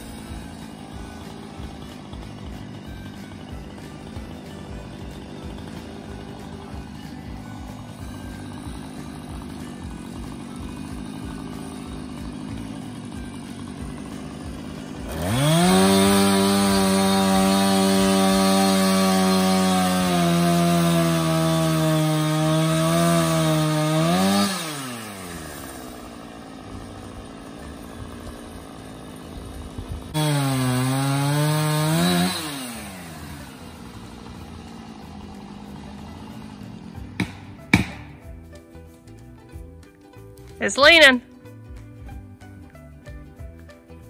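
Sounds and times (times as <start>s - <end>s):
chainsaw revving: 0.0s - 38.6s.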